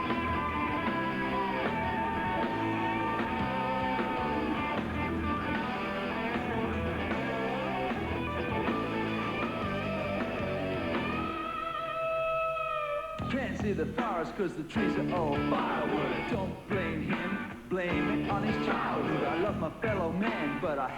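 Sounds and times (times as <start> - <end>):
bass and drums beat: 0.0 - 11.6, 13.2 - 20.7
electric guitar: 0.0 - 14.2, 14.8 - 20.9.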